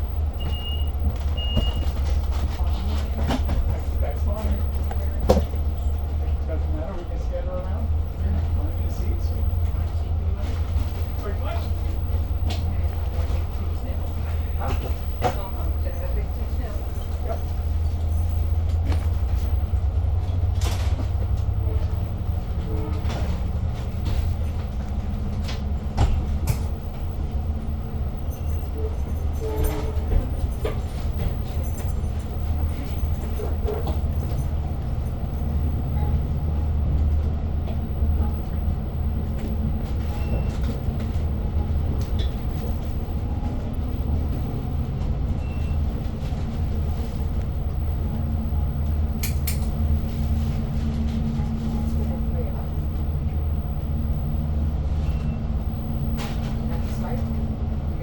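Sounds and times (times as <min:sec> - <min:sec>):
clicks and knocks from train car: 0:00.0 - 0:06.8, 0:09.6 - 0:52.8, 0:53.8 - 0:57.7
train rumbling: 0:00.0 - 0:58.0.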